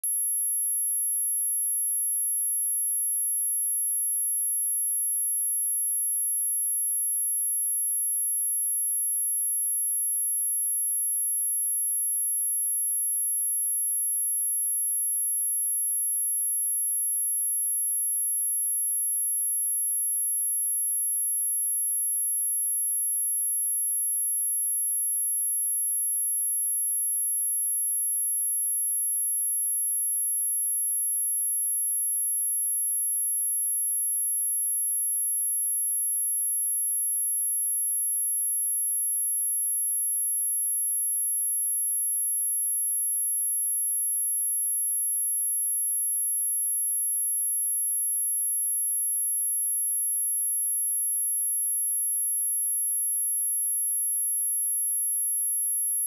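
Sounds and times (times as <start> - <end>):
high-pitched sine test tone: 0.0 - 56.0.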